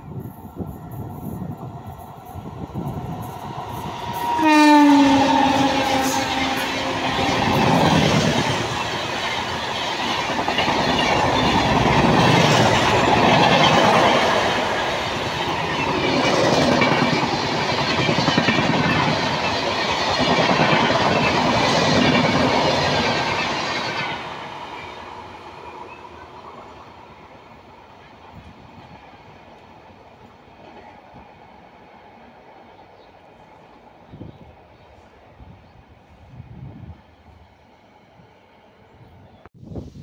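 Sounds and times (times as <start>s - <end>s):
train wheels on rails: 0.0s - 39.7s.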